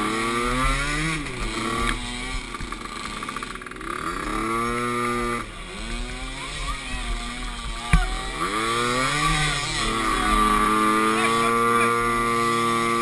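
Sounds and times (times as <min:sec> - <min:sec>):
atv engines revving: 0:00.0 - 0:13.0.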